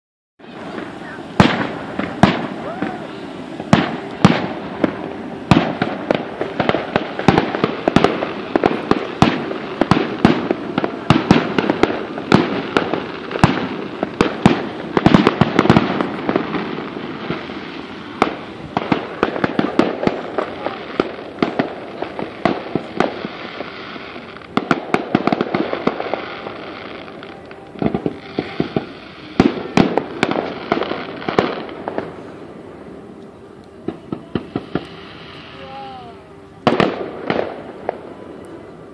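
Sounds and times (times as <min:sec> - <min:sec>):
fireworks bangs and crackling: 0:00.4 - 0:38.9.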